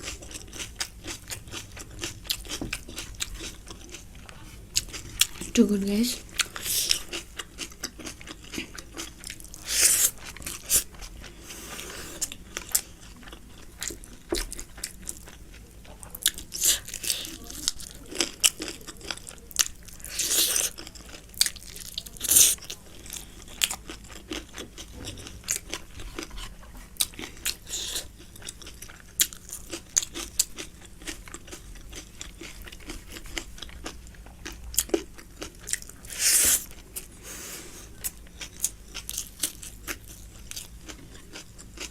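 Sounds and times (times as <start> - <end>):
chewing and mouth noises: 0.0 - 37.2, 37.8 - 41.9.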